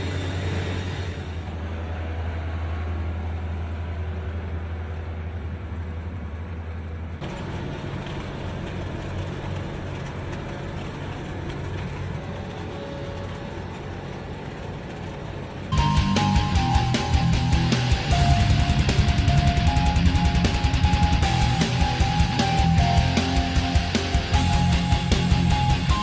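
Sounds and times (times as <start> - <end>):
heavy machinery engines humming: 0.0 - 26.0.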